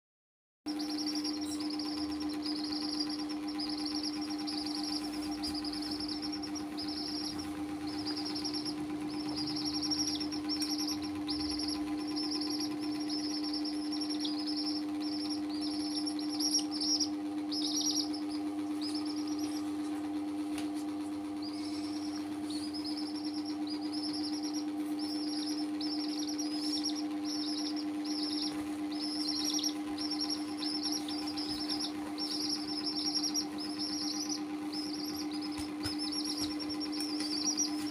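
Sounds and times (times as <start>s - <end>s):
baby chicks peeping: 0.7s - 37.9s
steady low hum: 0.7s - 37.9s.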